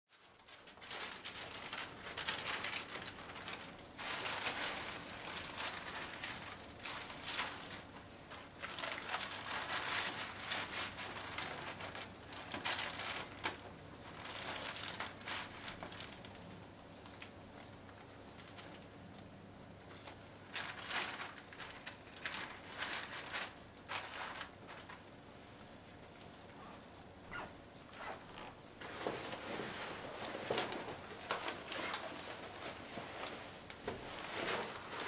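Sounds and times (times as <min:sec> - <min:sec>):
plastic crinkling and rustling: 0:00.1 - 0:35.0.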